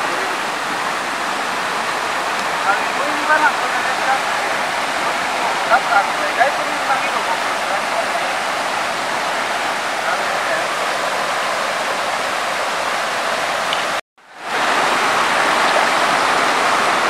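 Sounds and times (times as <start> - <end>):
white-water rapids rushing: 0.0 - 17.0.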